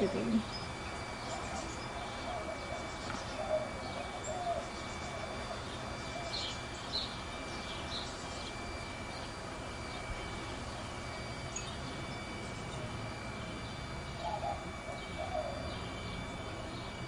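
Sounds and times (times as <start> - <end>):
birds warbling: 0.0 - 17.0.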